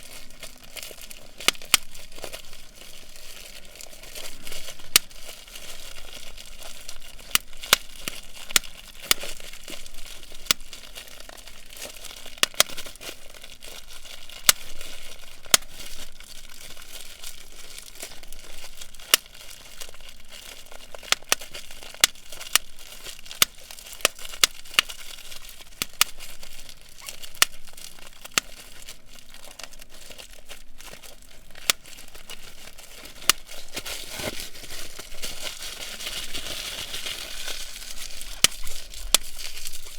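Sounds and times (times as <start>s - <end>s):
bubble wrap crinkling: 0.0s - 39.9s
bubble wrap popping: 0.0s - 39.9s.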